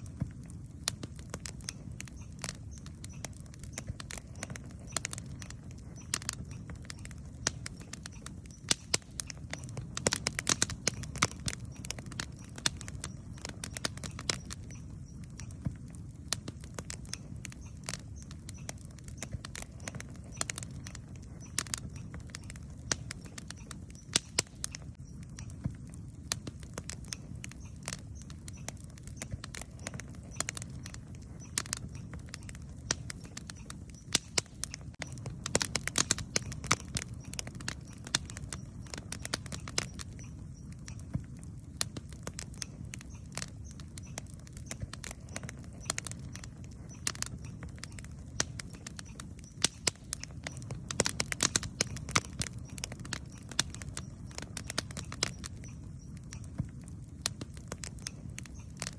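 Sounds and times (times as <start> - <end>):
campfire crackling and popping: 0.0 - 58.9.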